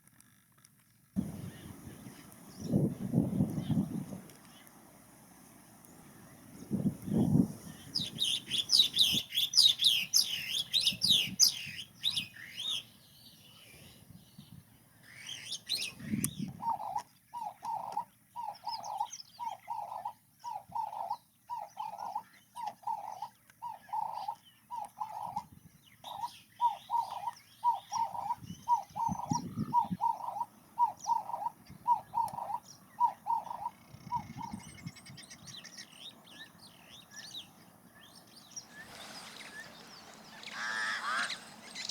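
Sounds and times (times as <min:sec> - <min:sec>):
birds chirping and twittering: 0:01.2 - 0:41.9.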